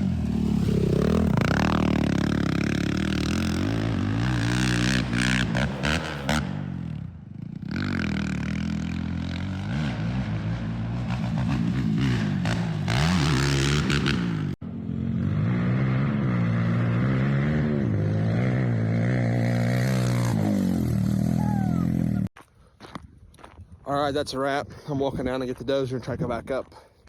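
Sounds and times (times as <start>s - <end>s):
dirt bike engine revving: 0.0s - 22.3s.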